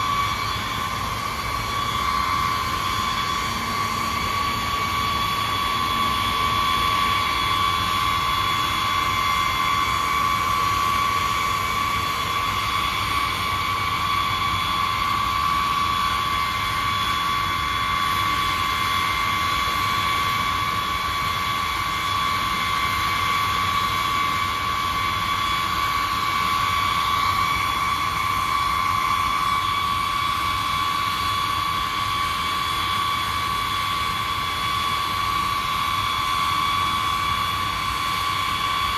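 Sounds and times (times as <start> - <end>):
jet engines running steadily: 0.0 - 38.9.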